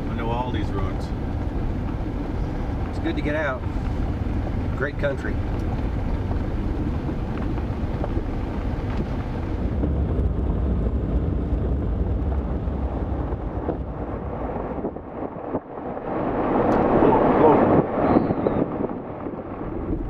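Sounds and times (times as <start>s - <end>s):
road and engine rumble in car: 0.0s - 20.0s
wind noise: 0.0s - 20.0s.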